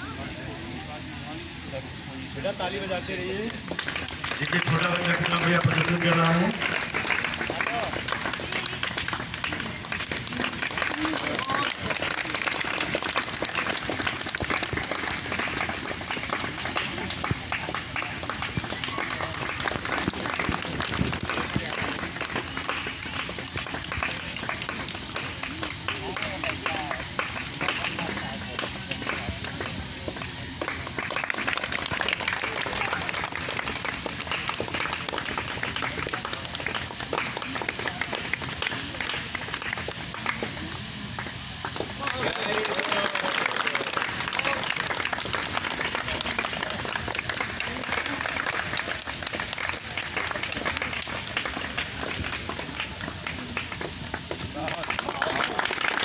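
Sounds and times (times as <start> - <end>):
audience applauding: 2.8 - 56.0.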